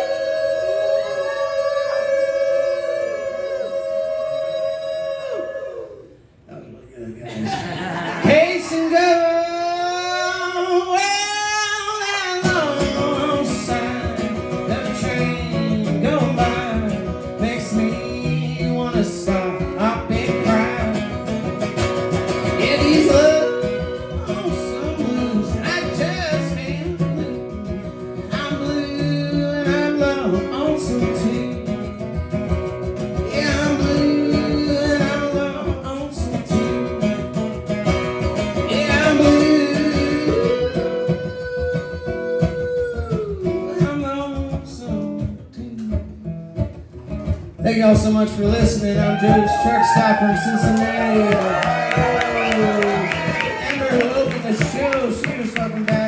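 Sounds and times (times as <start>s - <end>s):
acoustic guitar picking bluegrass: 7.3s - 56.0s.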